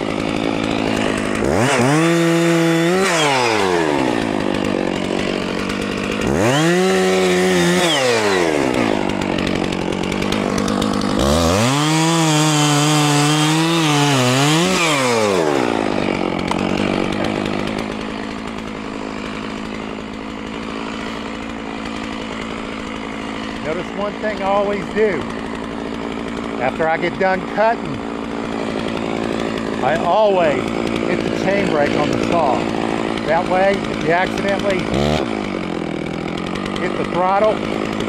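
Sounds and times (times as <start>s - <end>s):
chainsaw idling: 0.0s - 38.0s
chainsaw revving and cutting: 0.0s - 38.0s.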